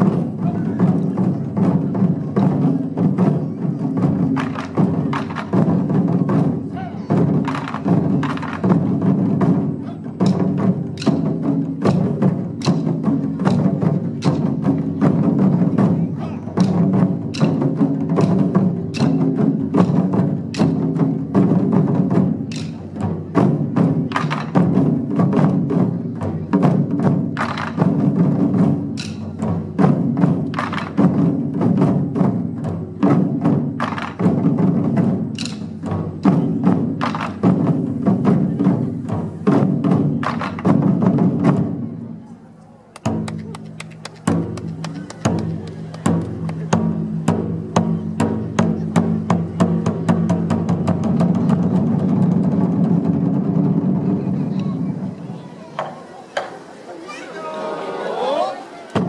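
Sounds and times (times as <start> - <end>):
taiko drum ensemble playing: 0.0 - 42.2, 43.0 - 57.6, 58.2 - 59.0.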